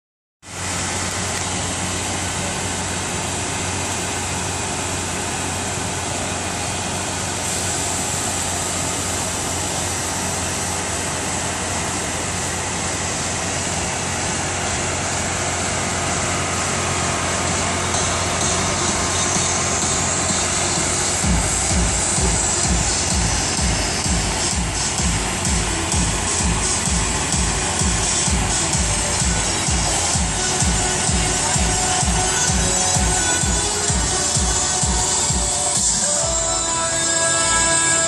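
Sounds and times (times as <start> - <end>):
car engine idling: 0.5 - 38.0.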